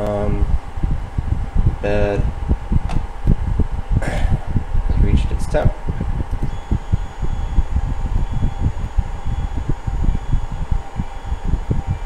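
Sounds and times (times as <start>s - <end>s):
fan running with whine: 0.0s - 12.0s.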